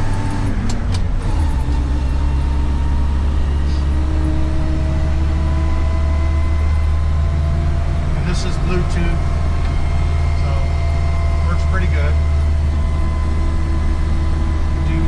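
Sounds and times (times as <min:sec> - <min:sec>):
car engine pulling steadily: 0:00.0 - 0:15.0
road noise: 0:00.0 - 0:15.0.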